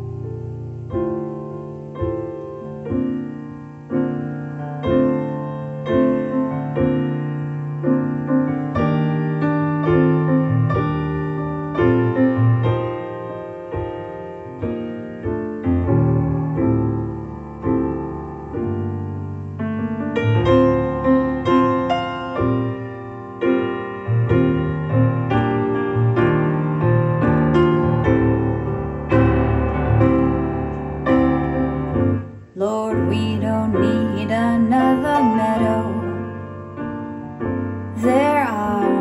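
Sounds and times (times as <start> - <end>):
piano music through speakers: 0.0 - 39.0.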